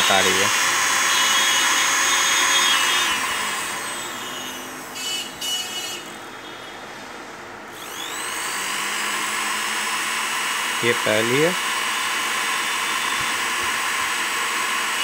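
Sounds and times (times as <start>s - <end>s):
sewing machine motor whine: 0.0s - 6.1s, 7.8s - 15.0s.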